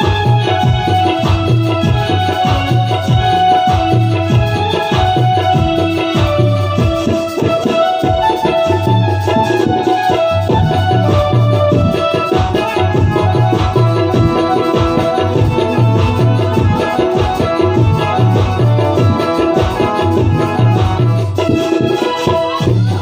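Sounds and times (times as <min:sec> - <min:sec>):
electronic keyboard melody: 0:00.0 - 0:23.0
tabla fast rhythm: 0:00.0 - 0:23.0.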